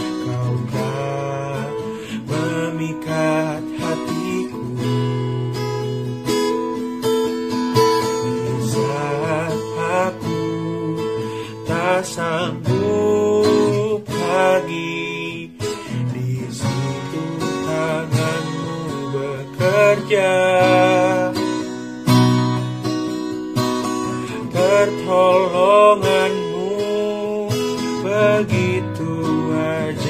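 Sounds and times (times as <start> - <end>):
man singing: 0.0 - 6.4, 7.8 - 22.8, 23.8 - 30.0
strummed acoustic guitar: 0.0 - 30.0.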